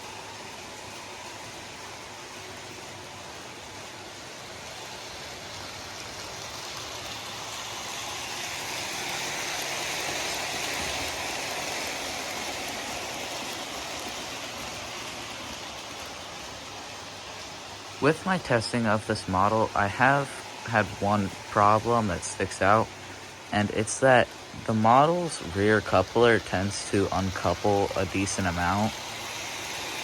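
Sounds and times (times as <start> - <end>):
model train motor whirring: 0.0 - 30.0.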